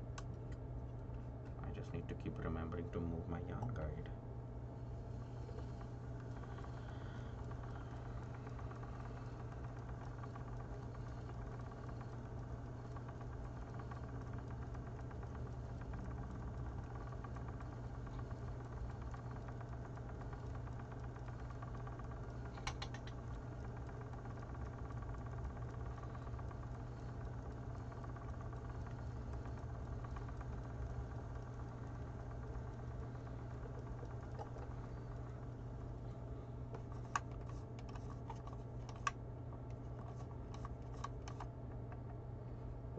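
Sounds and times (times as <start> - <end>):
spinning wheel humming: 0.0 - 42.9.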